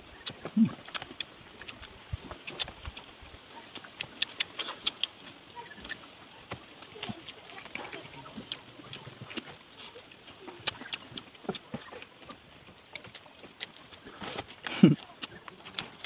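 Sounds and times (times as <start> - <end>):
mouth clicks and lip smacks chewing: 0.0 - 16.0.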